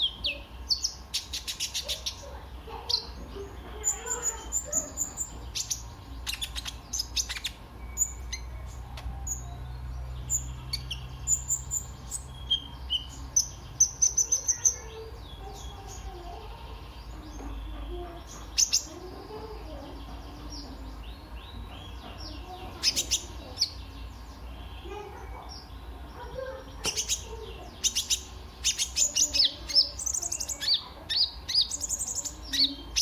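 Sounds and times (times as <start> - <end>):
small bird chirping and trilling: 0.0 - 33.0.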